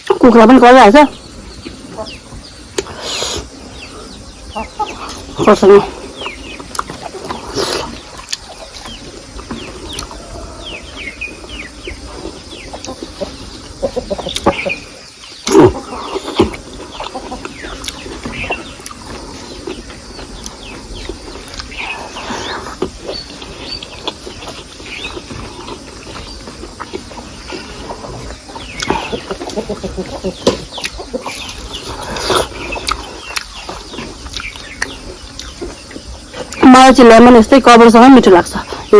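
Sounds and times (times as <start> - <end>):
chickens clucking: 0.0 - 38.9
chewing and crunching food: 1.7 - 36.6.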